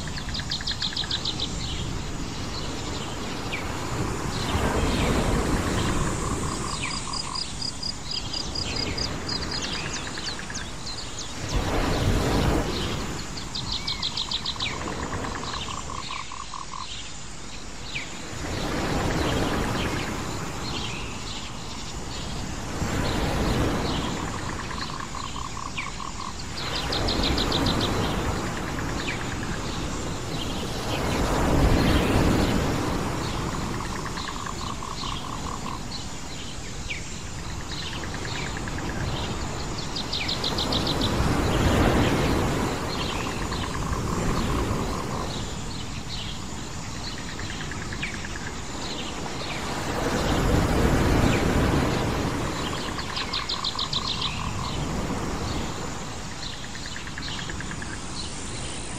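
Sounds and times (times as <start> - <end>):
waves washing onto shore: 0.0 - 15.9, 17.2 - 58.9
birds chirping and trilling: 0.0 - 58.9.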